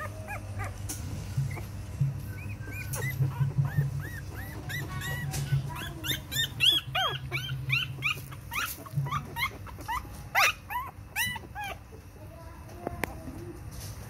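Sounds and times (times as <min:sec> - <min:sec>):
puppies crying: 0:00.0 - 0:12.0.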